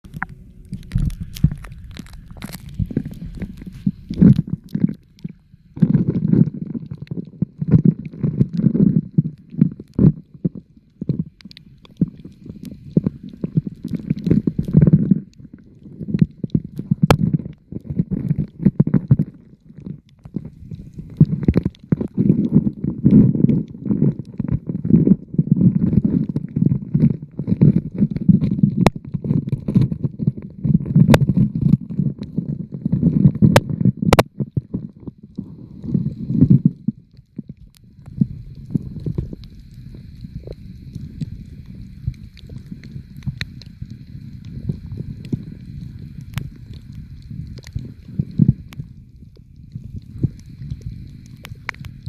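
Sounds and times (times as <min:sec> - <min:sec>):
small underwater clicks: 0:00.0 - 0:52.0
underwater gurgling and sloshing: 0:00.0 - 0:52.0.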